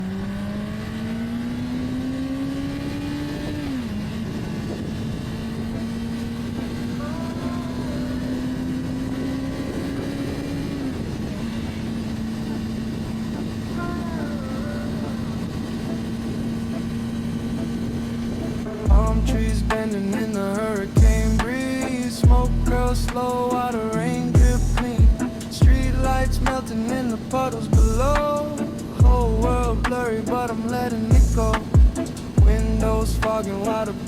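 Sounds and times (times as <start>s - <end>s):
motorcycle engine shifting gears: 0.0s - 34.0s
steady rush of noise: 3.5s - 34.0s.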